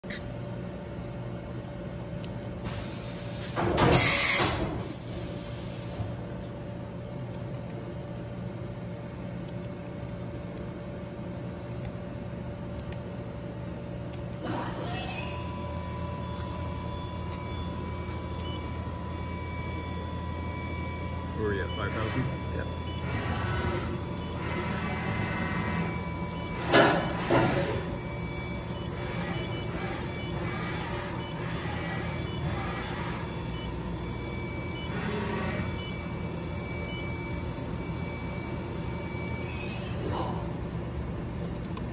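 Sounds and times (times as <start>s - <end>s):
machining center humming: 0.0s - 41.9s.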